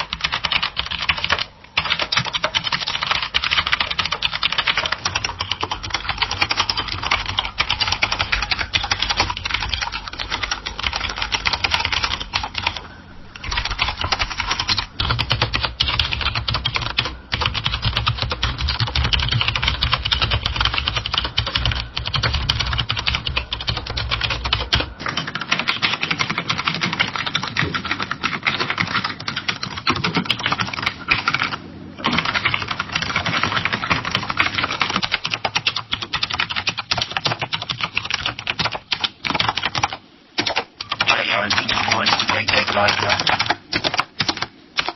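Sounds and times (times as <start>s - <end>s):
fast typing on keyboard: 0.0s - 12.8s, 13.4s - 44.9s.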